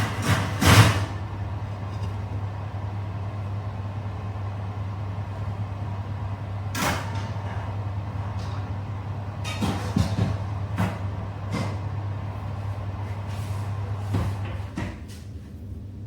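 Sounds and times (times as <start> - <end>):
kitchen appliance humming and whirring: 0.0 - 16.0.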